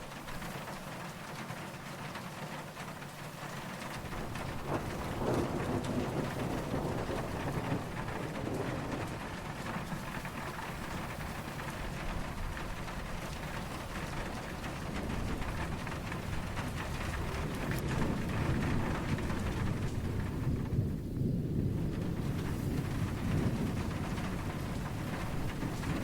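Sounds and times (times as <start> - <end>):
distant thunder rumbling: 0.0 - 26.0
rain falling: 0.0 - 26.0.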